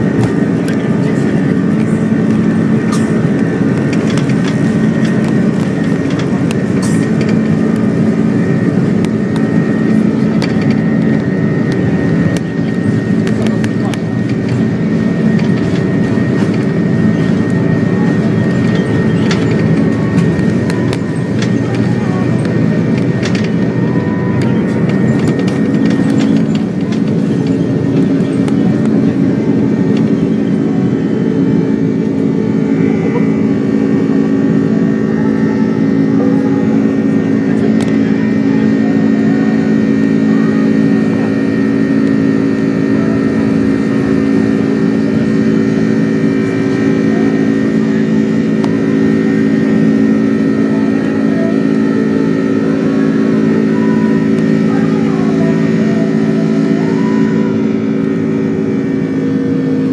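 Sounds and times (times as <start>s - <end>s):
droning buzzsaw engine tones: 0.0s - 59.9s
rush of engine and air noise: 0.0s - 59.9s.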